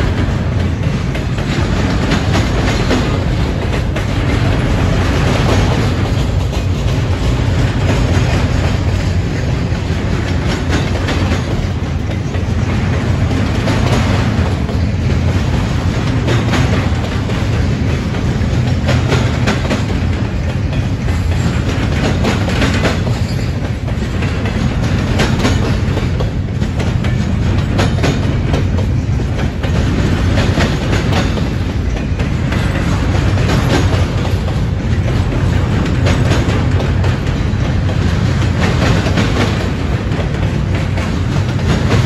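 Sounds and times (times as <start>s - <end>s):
train rumbling past: 0.0s - 42.0s.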